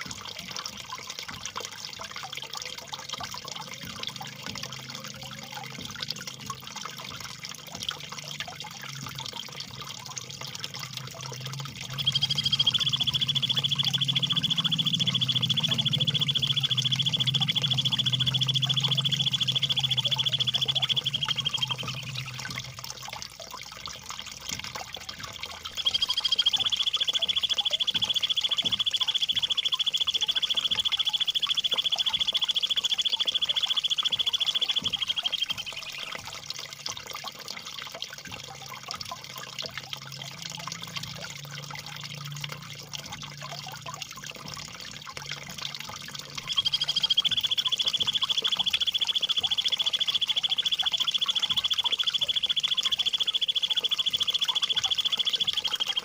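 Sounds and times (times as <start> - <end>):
trickling water: 0.0 - 56.0.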